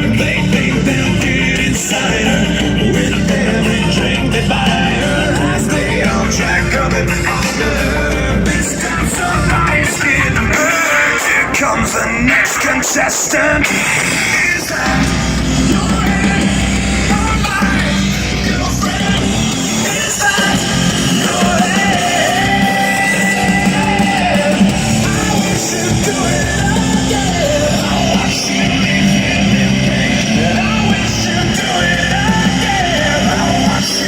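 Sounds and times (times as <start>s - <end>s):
rock music through car stereo: 0.0s - 34.0s.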